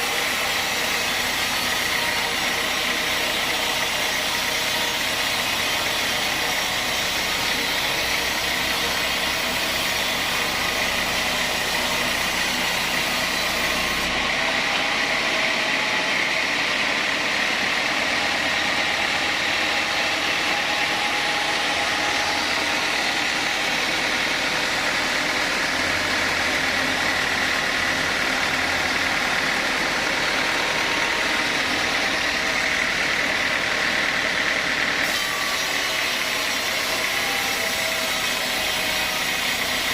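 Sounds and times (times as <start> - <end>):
high mechanical whine: 0.0 - 39.7
sawmill machinery running: 0.0 - 39.9.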